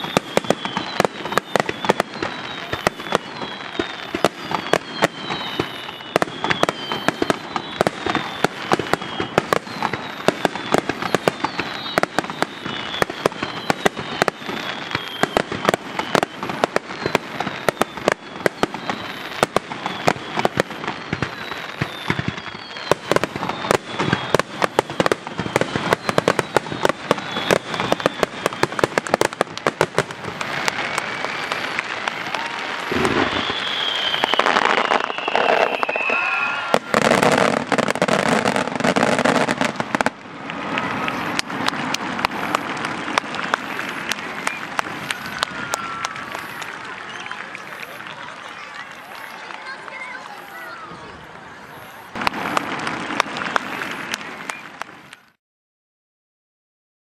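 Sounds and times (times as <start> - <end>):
firework whistles sliding down: 0.0 - 55.4.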